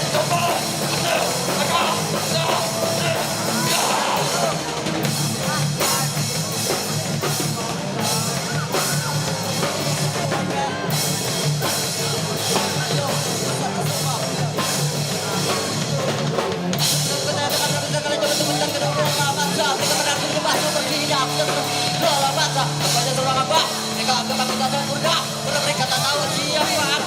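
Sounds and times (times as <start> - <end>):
pounding drum kit: 0.0 - 27.0
punk band playing live: 0.0 - 27.0.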